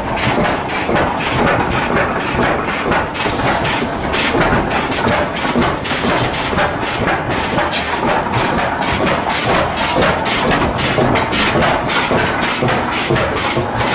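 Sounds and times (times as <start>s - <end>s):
old gas engines clattering: 0.0s - 13.9s.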